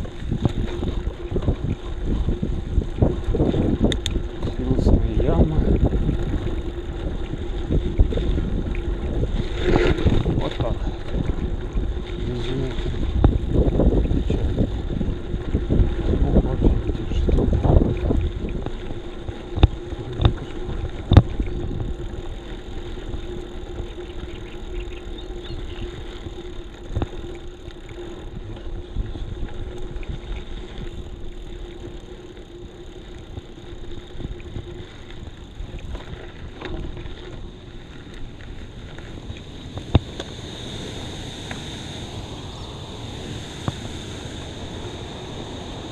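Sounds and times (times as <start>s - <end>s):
bicycle tyres rolling on road: 0.0s - 45.9s
wind buffeting microphone: 0.0s - 45.9s.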